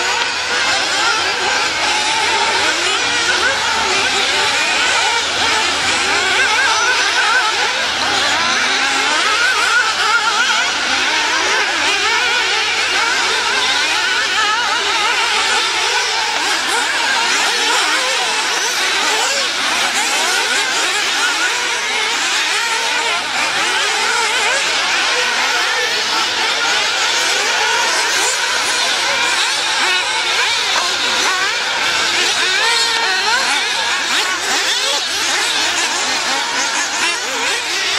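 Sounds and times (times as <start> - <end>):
rc car engines whining: 0.0 - 37.9.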